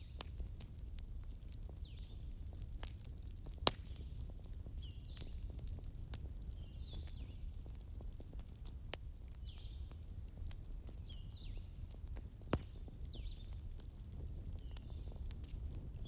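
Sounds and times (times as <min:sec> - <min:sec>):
campfire crackling: 0:00.0 - 0:16.0
low rumble of flames: 0:00.0 - 0:16.0.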